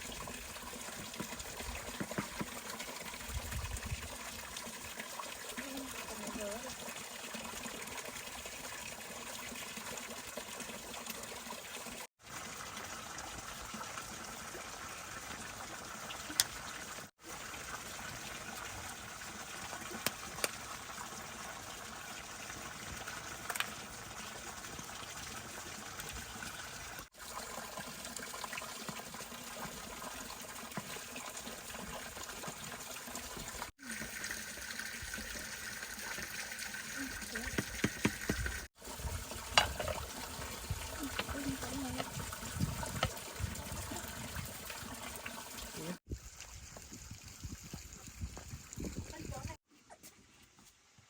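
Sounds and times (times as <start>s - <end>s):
water running and trickling: 0.0s - 51.0s.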